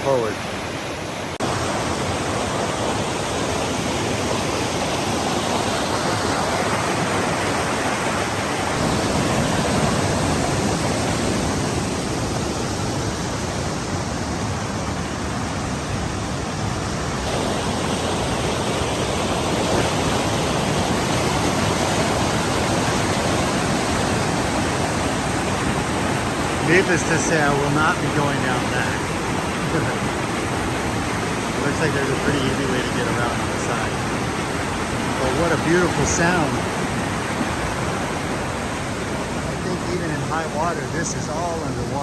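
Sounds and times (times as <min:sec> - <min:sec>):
river rushing over rocks: 0:00.0 - 0:42.0.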